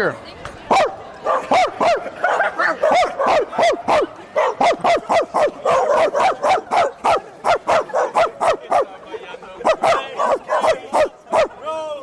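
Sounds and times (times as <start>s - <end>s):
high yapping barks: 0.7s - 8.9s, 9.6s - 11.6s.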